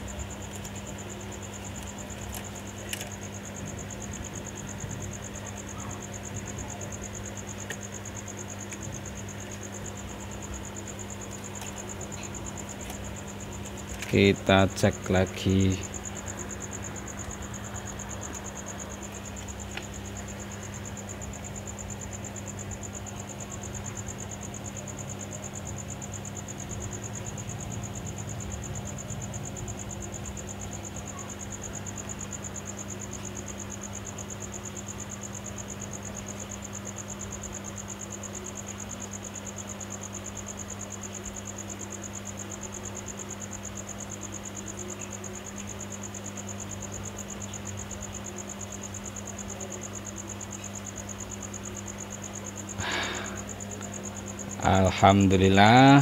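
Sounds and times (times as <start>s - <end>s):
insect trilling: 0.0s - 56.0s.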